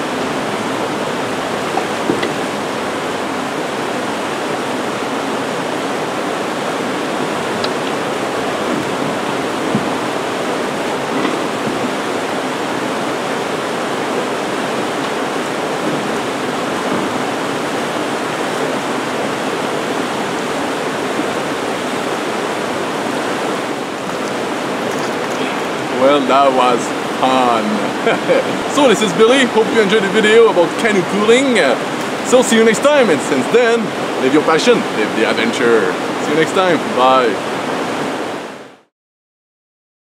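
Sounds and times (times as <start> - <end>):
river water rushing over rapids: 0.0 - 38.9.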